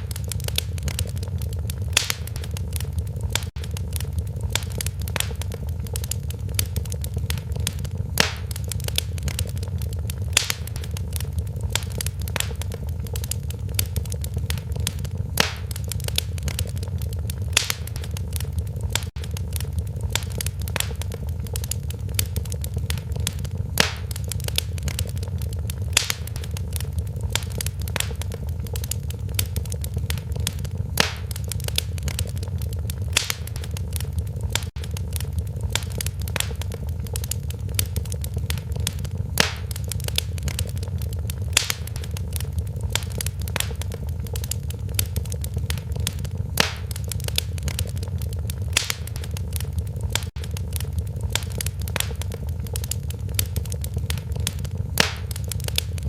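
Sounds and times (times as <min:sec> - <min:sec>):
sharp pops from fire: 0:00.0 - 0:56.0
wood fire crackling: 0:00.0 - 0:56.0.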